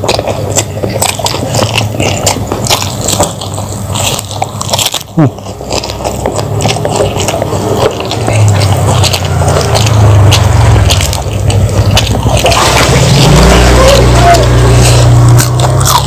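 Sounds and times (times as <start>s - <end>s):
crispy fish crackling as torn: 0.0s - 16.0s
wet chewing of vegetables: 0.0s - 16.0s.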